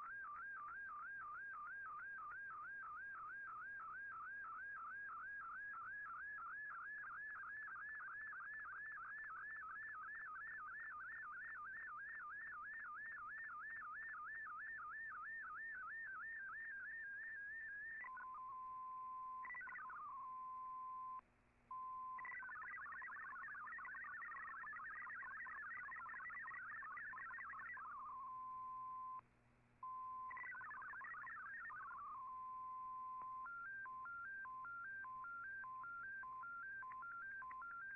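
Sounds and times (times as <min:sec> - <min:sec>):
warbling data tone: 0:00.0 - 0:21.2, 0:21.9 - 0:29.2, 0:29.9 - 0:37.9
fast hopping data tones: 0:00.0 - 0:29.2, 0:29.8 - 0:37.9.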